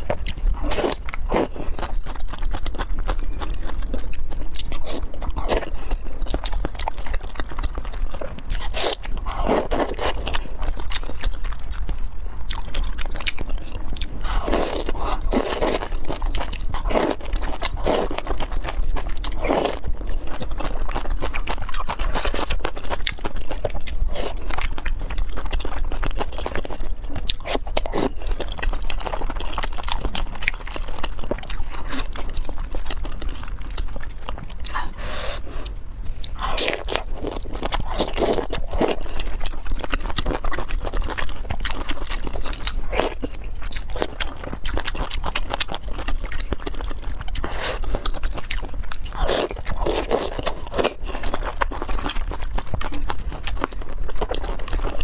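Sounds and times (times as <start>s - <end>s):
crunching and chewing vegetable stalks: 0.0s - 55.0s.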